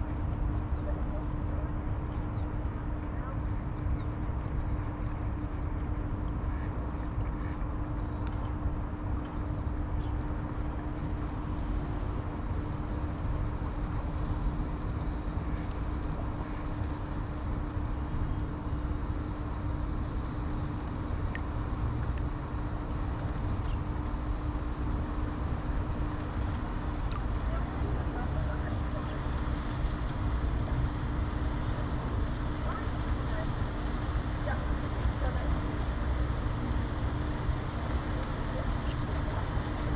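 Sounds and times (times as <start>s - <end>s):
distant engine rumble: 0.0s - 39.9s
low hum: 0.0s - 39.9s.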